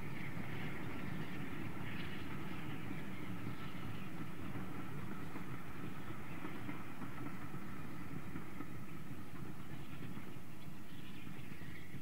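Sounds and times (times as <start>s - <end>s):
distant steam train rumbling: 0.0s - 12.0s.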